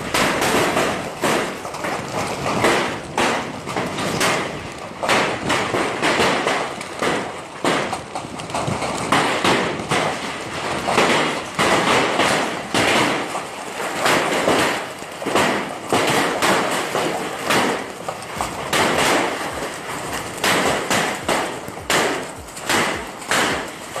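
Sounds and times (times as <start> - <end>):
hailstones pelting hard surfaces: 0.0 - 24.0.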